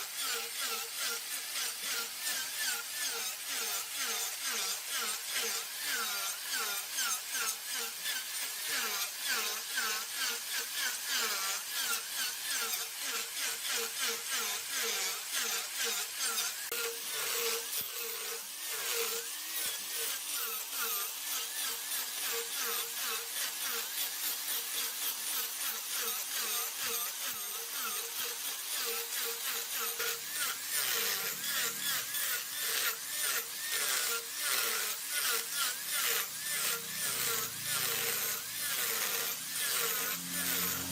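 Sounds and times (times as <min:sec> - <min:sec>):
lathe tool shaving wood: 0:00.0 - 0:40.9.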